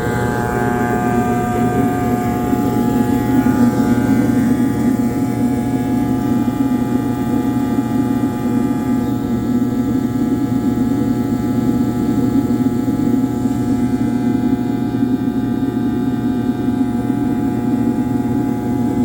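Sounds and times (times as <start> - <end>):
motor droning: 0.0 - 19.0.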